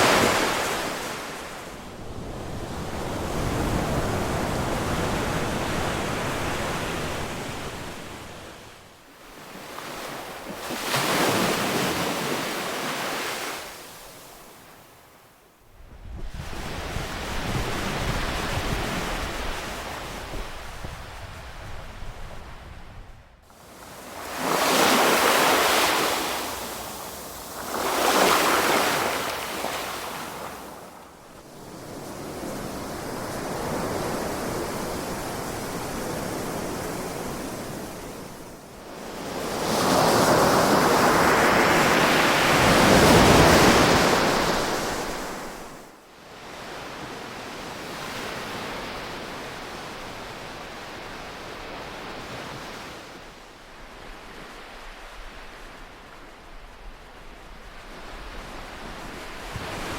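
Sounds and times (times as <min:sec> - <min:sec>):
ocean waves rolling in: 0:00.0 - 0:15.4, 0:16.2 - 0:59.9.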